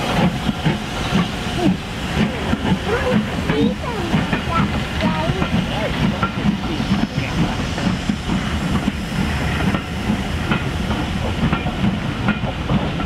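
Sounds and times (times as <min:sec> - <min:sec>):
steam hissing: 0:00.0 - 0:13.0
train wheels clicking over rail joints: 0:00.0 - 0:13.0.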